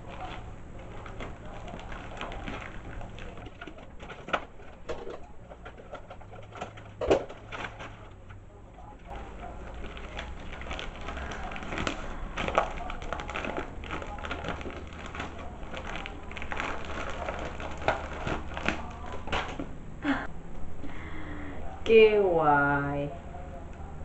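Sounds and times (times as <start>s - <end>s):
plastic packaging crinkling: 0.0s - 19.8s.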